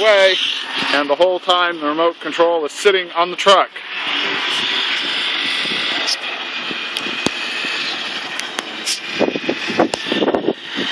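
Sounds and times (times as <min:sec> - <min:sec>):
vehicle whirring: 0:00.0 - 0:10.9.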